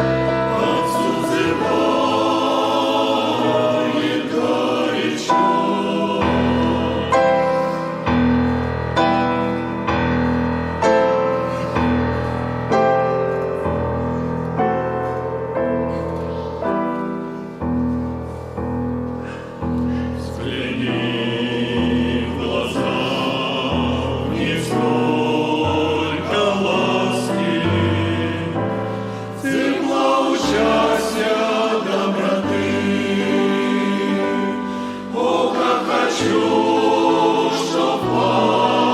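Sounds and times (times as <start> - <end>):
choir singing: 0.0 - 17.2, 20.1 - 38.9.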